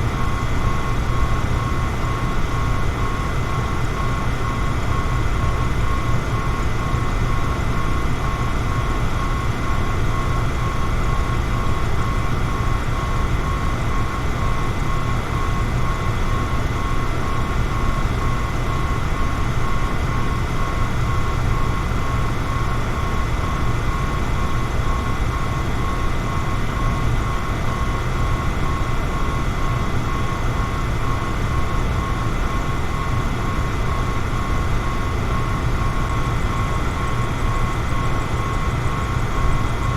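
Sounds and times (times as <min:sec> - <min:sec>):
electric fan whooshing hum: 0:00.0 - 0:39.9
faint motor whine: 0:00.0 - 0:39.9.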